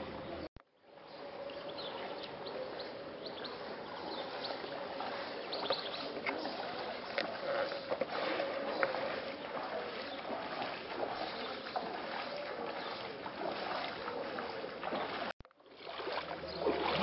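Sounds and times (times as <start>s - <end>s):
small birds chirping: 0.1s - 15.3s.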